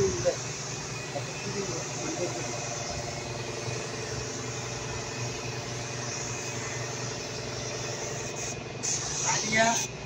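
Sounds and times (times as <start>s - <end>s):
machine hum: 0.0s - 8.9s
paint spray gun hissing: 0.0s - 10.0s.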